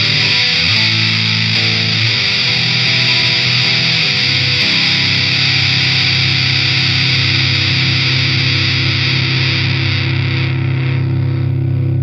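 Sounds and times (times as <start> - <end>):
distorted electric guitar chord: 0.0 - 12.0.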